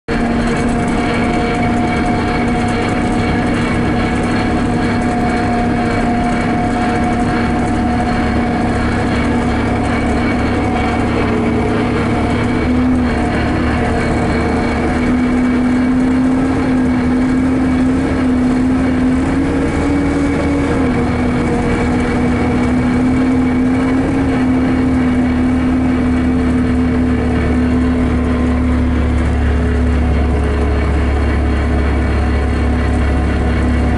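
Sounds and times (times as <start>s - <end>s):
tyre and road rumble: 0.1s - 33.9s
vehicle engine hum: 0.1s - 33.9s.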